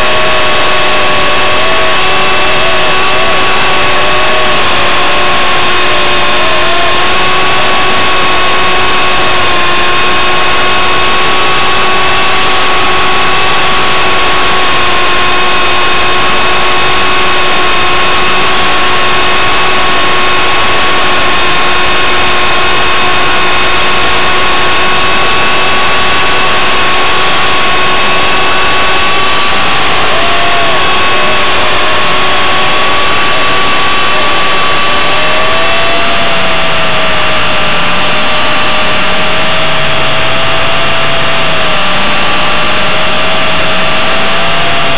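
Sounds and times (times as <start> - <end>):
rc helicopter motor whine: 0.0 - 44.9.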